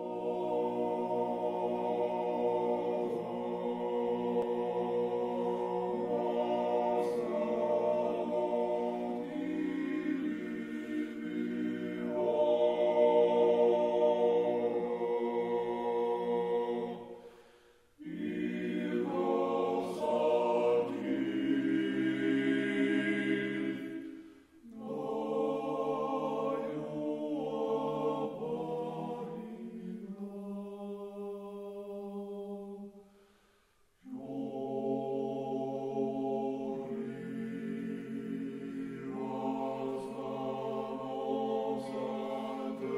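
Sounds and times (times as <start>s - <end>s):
choir singing slow chant: 0.0s - 42.9s.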